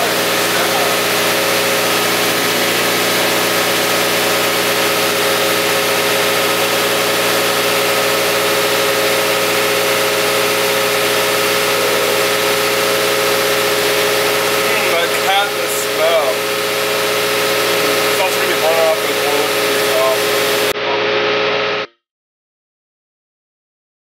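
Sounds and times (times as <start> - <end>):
car engine idling: 0.0 - 20.7.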